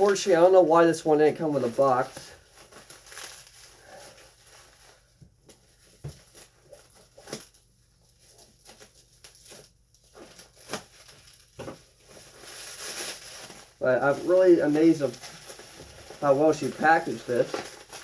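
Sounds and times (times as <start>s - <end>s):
bubble wrap rustling: 0.0s - 18.0s.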